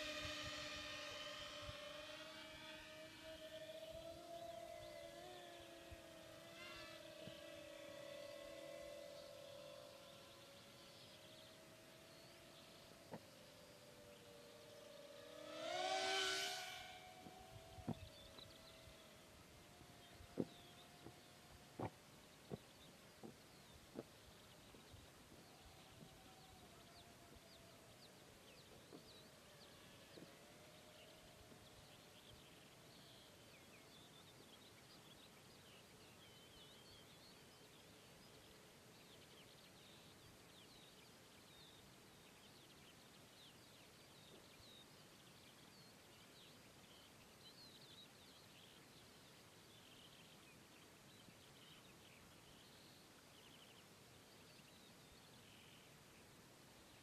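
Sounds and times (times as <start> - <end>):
small birds chirping: 1.6 - 57.0.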